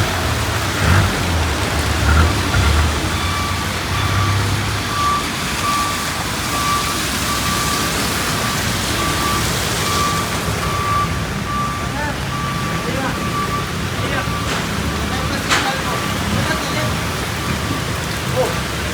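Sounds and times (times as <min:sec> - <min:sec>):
street traffic: 0:00.0 - 0:18.9
reversing alarm beeping: 0:02.1 - 0:18.5.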